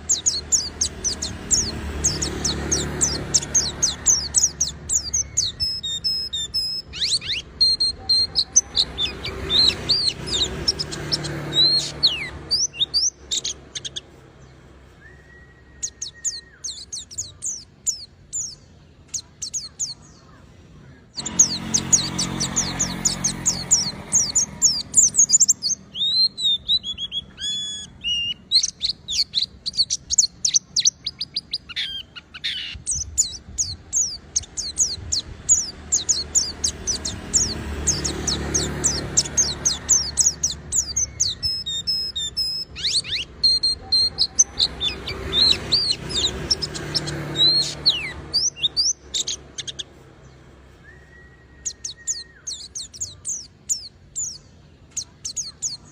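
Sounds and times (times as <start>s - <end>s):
bird singing high chirps and trills: 0.0s - 55.9s.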